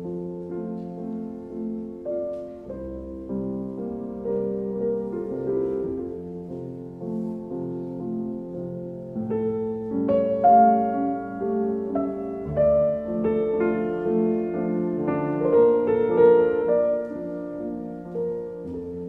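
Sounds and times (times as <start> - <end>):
piano music with held chords: 0.0 - 19.0.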